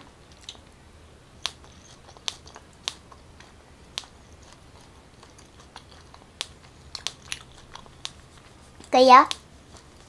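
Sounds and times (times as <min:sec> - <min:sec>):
wet chewing clicks: 0:00.3 - 0:00.8, 0:01.4 - 0:10.0.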